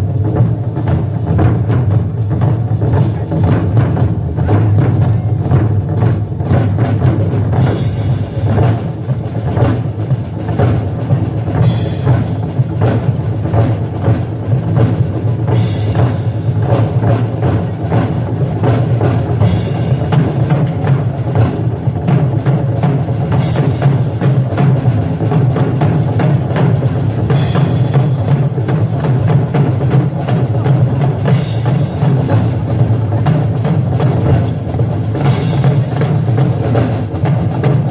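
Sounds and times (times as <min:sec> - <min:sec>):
live music with dense drumming: 0:00.0 - 0:37.9.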